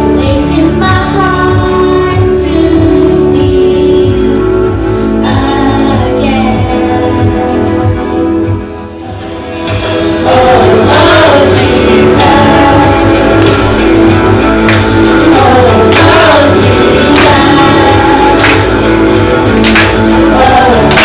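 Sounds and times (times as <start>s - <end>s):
person singing: 0.0s - 8.1s, 9.0s - 21.0s
instrumental backing with beat: 0.0s - 21.0s.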